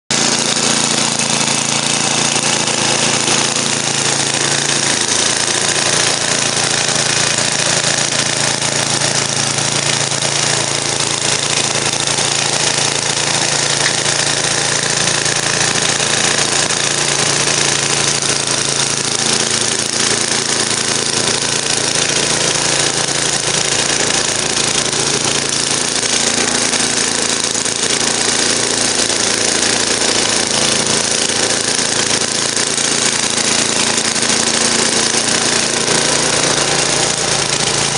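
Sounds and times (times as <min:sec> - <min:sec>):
snowblower engine running: 0:00.1 - 0:37.9.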